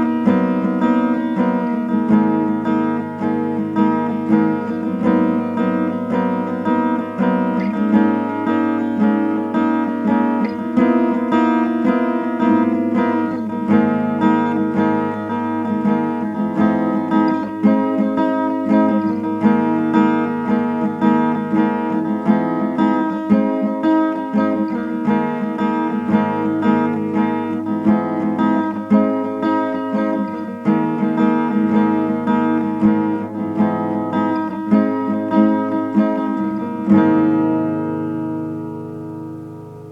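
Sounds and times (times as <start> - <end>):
strummed guitar chords: 0.0 - 39.9.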